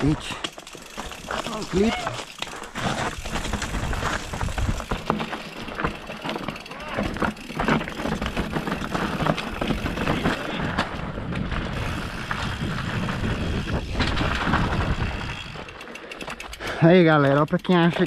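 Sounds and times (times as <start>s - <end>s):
bike rattling and clicking: 0.0s - 18.0s
tyres rumbling on dirt: 0.0s - 18.0s.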